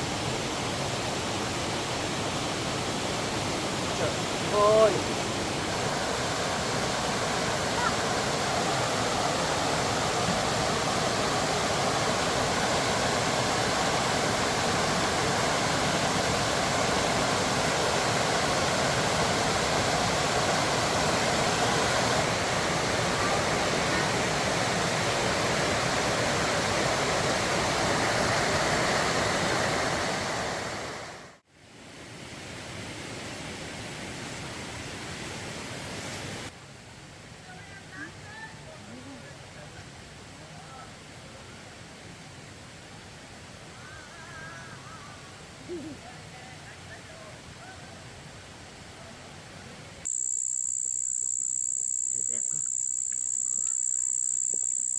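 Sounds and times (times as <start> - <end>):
rushing water: 0.0 - 50.1
quiet steady hiss: 0.0 - 54.9.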